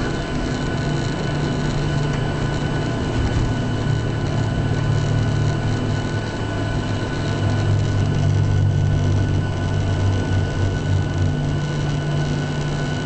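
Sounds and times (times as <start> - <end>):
jet engines humming: 0.0 - 13.0
thin steady whine: 0.0 - 13.0.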